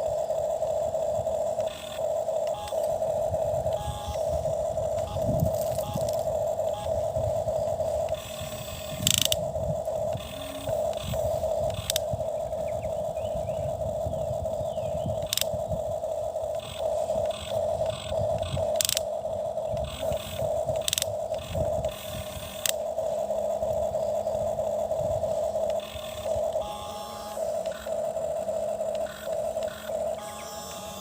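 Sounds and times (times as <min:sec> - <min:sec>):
toy electric motor whining: 0:00.0 - 0:31.0
sharp clicks: 0:01.4 - 0:13.0, 0:14.5 - 0:31.0.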